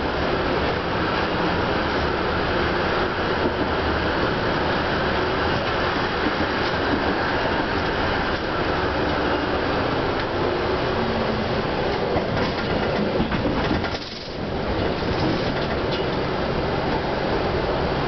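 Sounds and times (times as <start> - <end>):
steel wheels rolling on rails: 0.0 - 18.0.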